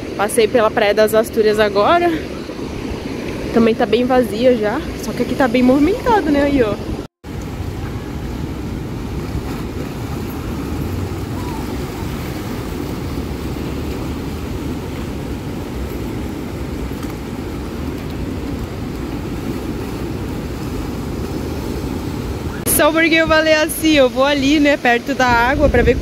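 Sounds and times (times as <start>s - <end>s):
ocean surf: 0.0s - 26.0s
wind on microphone: 4.8s - 26.0s.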